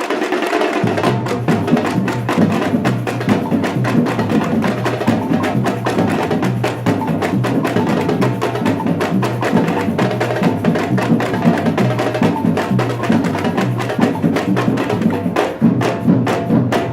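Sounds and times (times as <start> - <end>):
samba percussion ensemble: 0.0 - 16.9.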